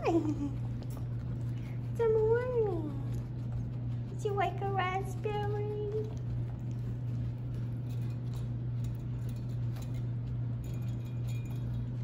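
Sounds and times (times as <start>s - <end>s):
guinea pigs chewing clicks: 0.0s - 12.0s
steady low hum: 0.0s - 12.0s.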